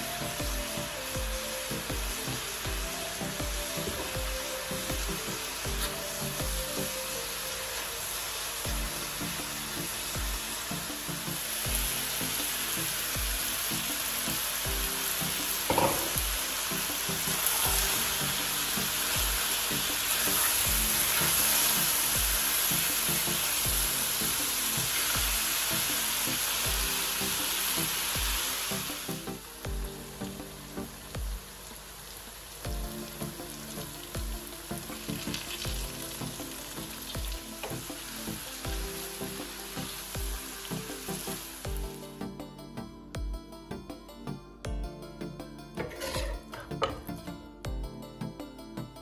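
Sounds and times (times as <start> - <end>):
vegetables sizzling in a pan: 0.0 - 42.0.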